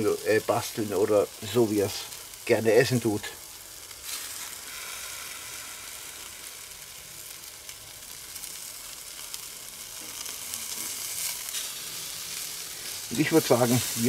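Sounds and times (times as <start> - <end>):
steaks sizzling on grill: 0.0 - 14.0.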